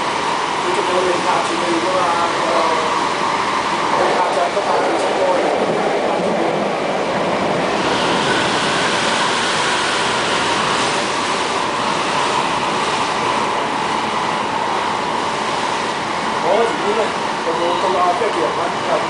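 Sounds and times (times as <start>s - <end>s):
train wheel and rail noise: 0.0s - 19.0s.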